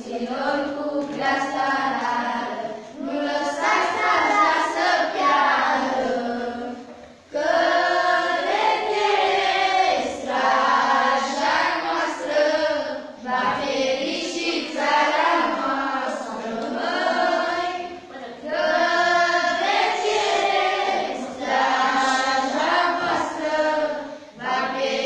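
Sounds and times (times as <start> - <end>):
children and women singing: 0.0 - 25.0.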